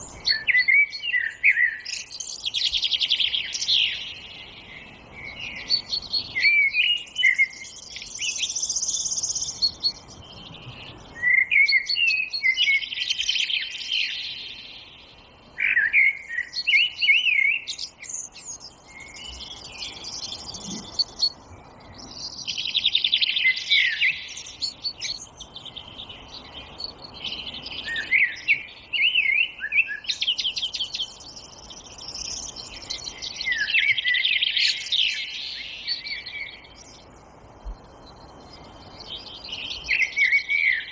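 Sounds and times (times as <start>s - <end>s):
faint steady hiss: 0.0s - 40.9s
songbirds singing: 0.0s - 40.9s.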